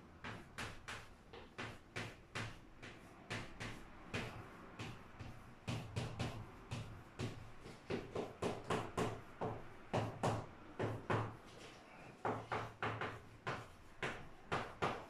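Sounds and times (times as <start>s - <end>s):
chalk tapping and scraping on chalkboard: 0.0s - 15.0s.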